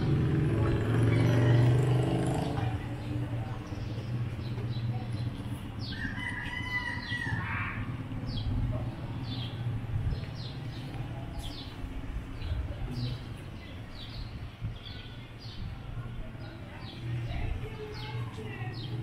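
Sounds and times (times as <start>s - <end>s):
small birds chirping: 0.6s - 19.0s.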